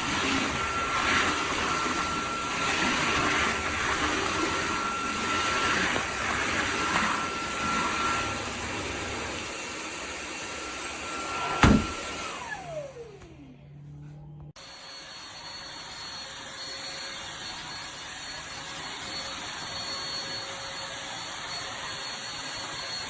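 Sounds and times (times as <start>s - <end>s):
vacuum cleaner whine: 0.0s - 23.0s.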